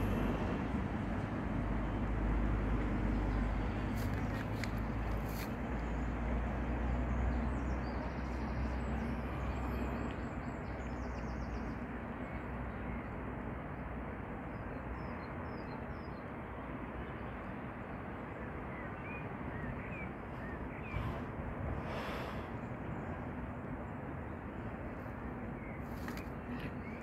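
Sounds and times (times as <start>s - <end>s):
distant city noise: 0.0s - 27.0s.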